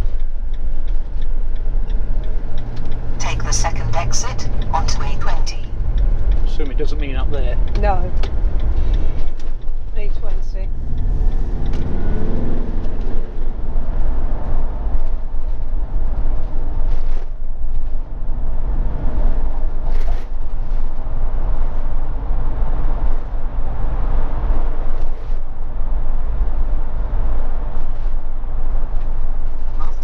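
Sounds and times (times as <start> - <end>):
vehicle engine tyre and wind noise: 0.0 - 30.0.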